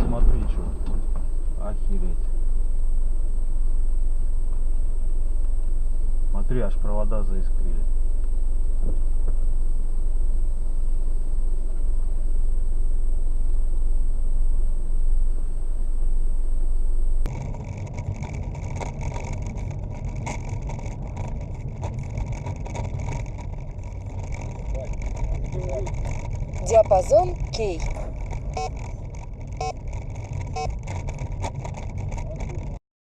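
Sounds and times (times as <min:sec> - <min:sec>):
car engine and road rumble: 0:00.0 - 0:32.8
hissy road noise: 0:00.0 - 0:32.8.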